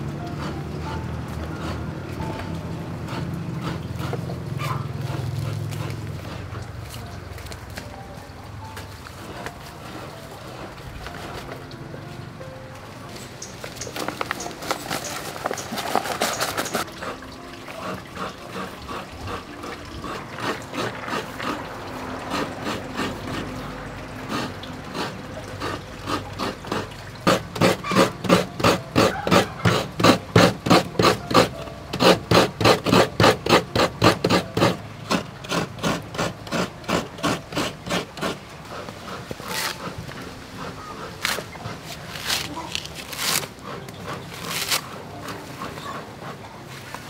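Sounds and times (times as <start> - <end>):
coconut scraped on grater: 0.0 - 7.2, 9.1 - 11.7, 13.2 - 47.0.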